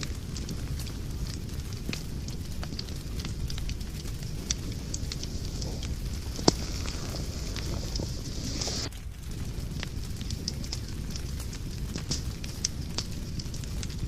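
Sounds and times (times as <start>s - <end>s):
fire crackling: 0.0s - 14.0s
low rumble of fire: 0.0s - 14.0s.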